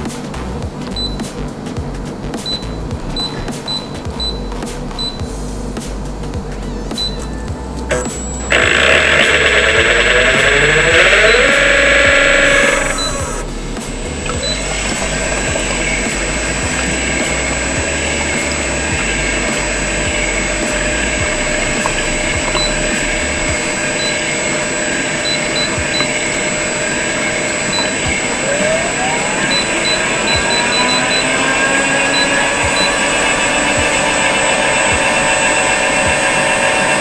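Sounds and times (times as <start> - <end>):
mixer motors humming: 0.0 - 37.0
motor whine rising: 5.2 - 37.0.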